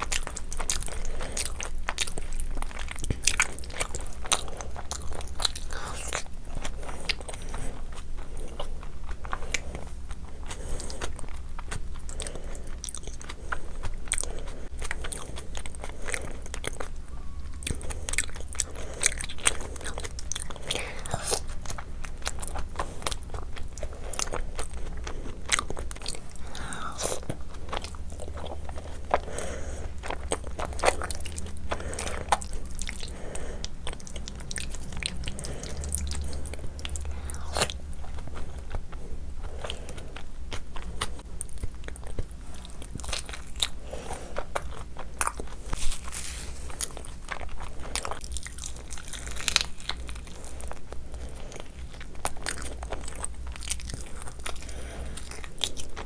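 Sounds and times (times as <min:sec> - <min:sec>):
steady low hum: 0:00.0 - 0:56.0
wet chewing and lip-smacks: 0:00.0 - 0:56.0.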